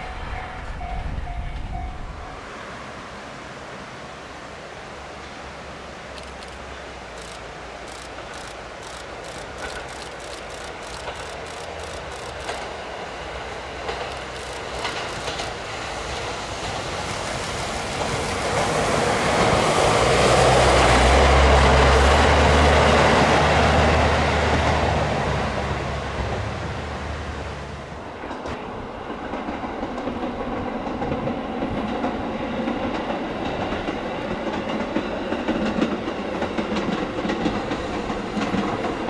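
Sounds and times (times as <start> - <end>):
passenger train passing: 0.0 - 39.0
train wheels clicking over track: 6.1 - 26.6, 28.0 - 39.0.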